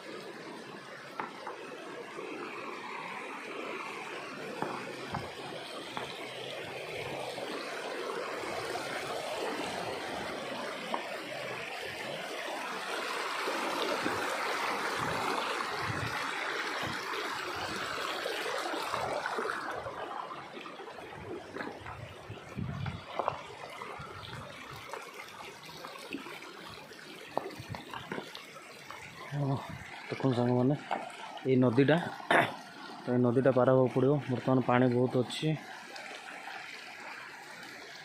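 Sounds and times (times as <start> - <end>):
shallow river babbling over rocks: 0.0 - 38.0.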